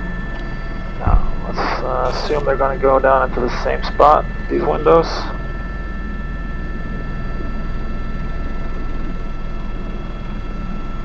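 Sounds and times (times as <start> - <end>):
helicopter turbine and rotors drone: 0.0 - 11.0
high whine: 0.0 - 11.0.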